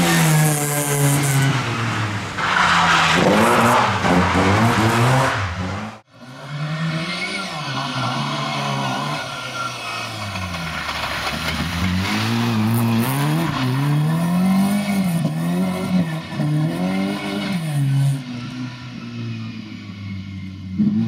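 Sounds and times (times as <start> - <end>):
rally car engine revving: 0.0 - 18.6.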